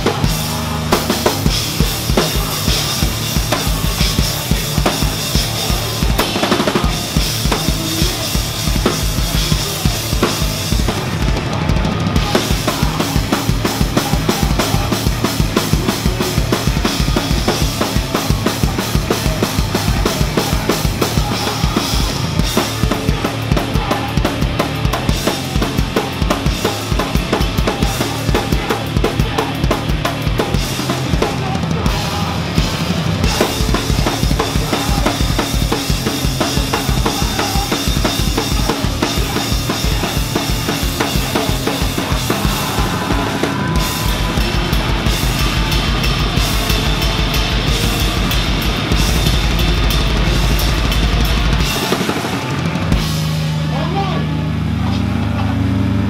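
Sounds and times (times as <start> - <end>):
bass drum beats: 0.0 - 54.2
electric guitar: 0.0 - 56.0.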